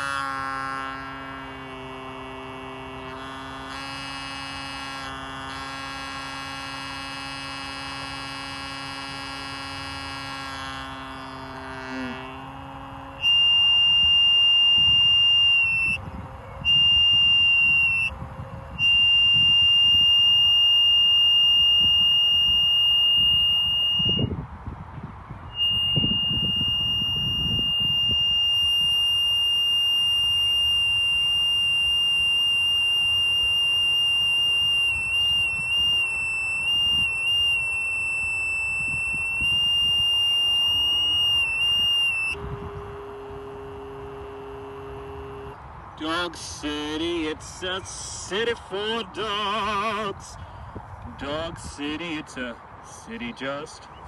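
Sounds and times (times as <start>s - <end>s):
microphone feedback squeal: 0.0s - 24.6s, 25.2s - 54.0s.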